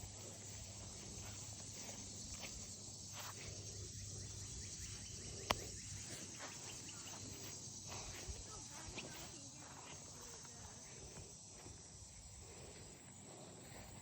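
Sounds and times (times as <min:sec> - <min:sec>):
insect chorus hissing: 0:00.0 - 0:14.0.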